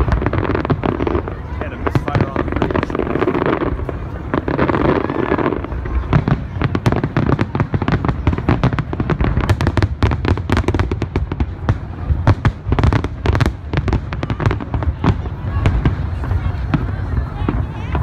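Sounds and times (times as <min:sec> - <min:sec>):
fireworks crackling and popping: 0:00.0 - 0:18.0
low rumble of fireworks: 0:00.0 - 0:18.0.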